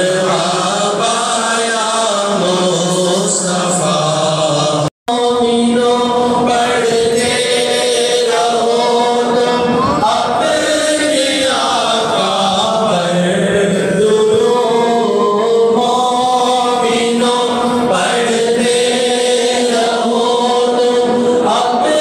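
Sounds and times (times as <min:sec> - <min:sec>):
men chanting in unison: 0:00.0 - 0:22.0
reciter chanting through microphone: 0:00.0 - 0:22.0.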